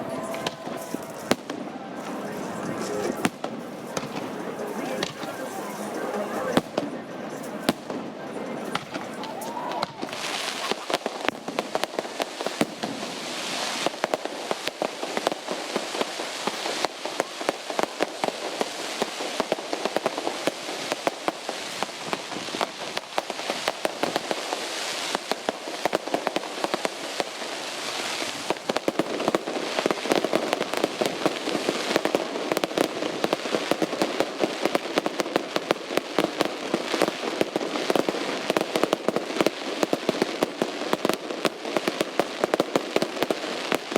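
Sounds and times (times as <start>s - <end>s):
fireworks crackling: 0.0s - 43.9s
fireworks pops and bangs: 0.0s - 43.9s.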